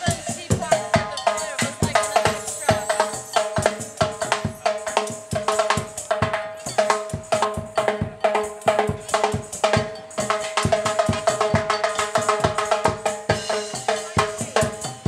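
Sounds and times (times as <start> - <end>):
drum percussion music: 0.0 - 15.0.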